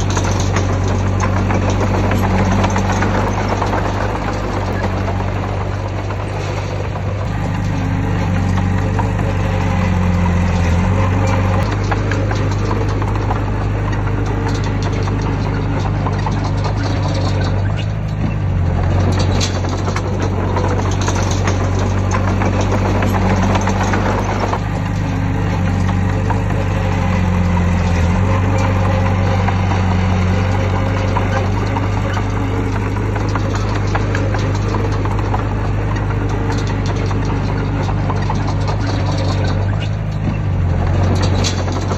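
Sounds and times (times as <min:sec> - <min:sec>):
heavy diesel engine running: 0:00.0 - 0:41.9
mechanical rattle: 0:00.0 - 0:41.9.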